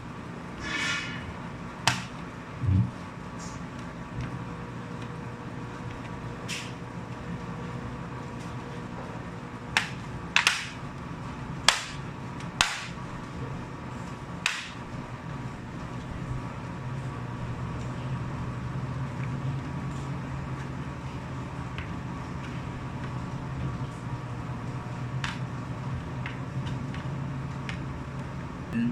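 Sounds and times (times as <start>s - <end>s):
steady background hum: 0.0s - 28.9s.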